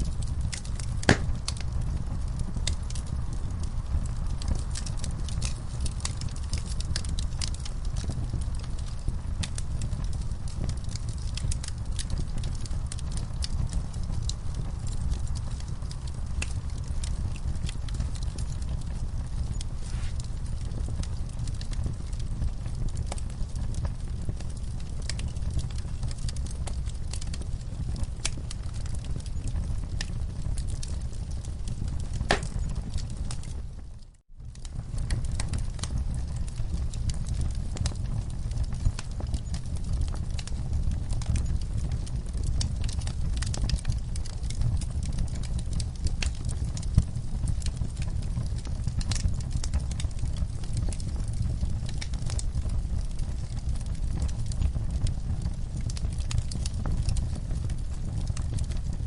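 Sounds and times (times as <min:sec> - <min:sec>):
fire crackling: 0:00.0 - 0:59.0
fire pops and snaps: 0:00.0 - 0:59.0.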